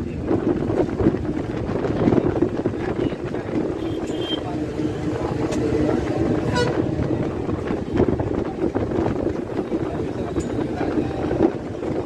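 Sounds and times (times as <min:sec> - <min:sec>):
bus body rattling and knocking: 0:00.0 - 0:12.0
bus engine drone: 0:00.0 - 0:12.0
road and wind noise: 0:00.0 - 0:12.0.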